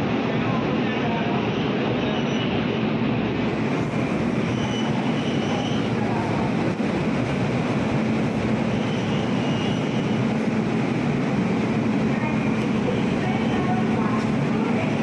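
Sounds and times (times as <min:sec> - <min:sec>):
electric locomotive humming: 0:00.0 - 0:15.0.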